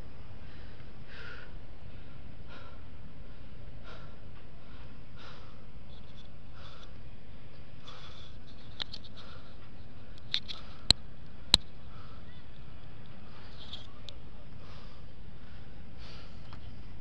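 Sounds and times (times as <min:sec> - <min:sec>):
heavy rhythmic breathing: 0:00.0 - 0:17.0
steady low rumble: 0:00.0 - 0:17.0.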